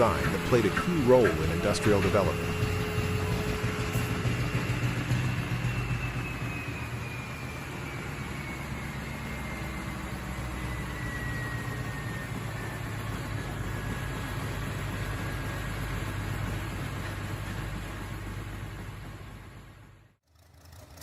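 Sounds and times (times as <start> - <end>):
slow-speed diesel engine running: 0.0 - 21.0.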